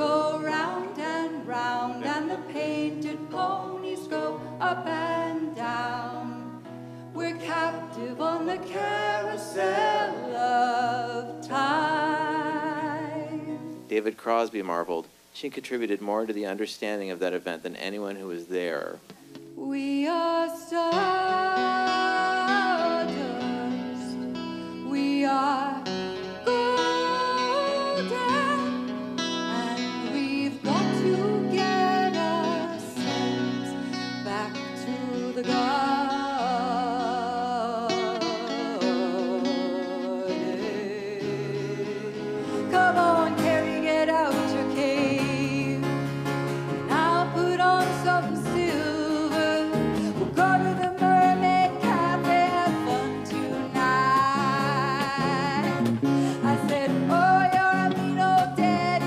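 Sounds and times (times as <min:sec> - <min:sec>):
woman singing folk song: 0:00.0 - 0:13.9, 0:19.0 - 0:59.0
acoustic guitar: 0:00.0 - 0:59.0.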